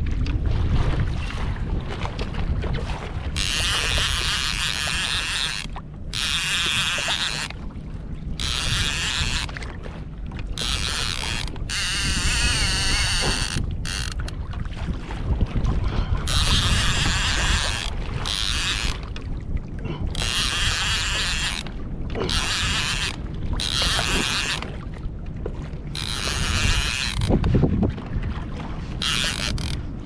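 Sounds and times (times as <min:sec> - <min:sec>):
water noise: 0:00.0 - 0:30.0
wind on microphone: 0:00.0 - 0:30.0.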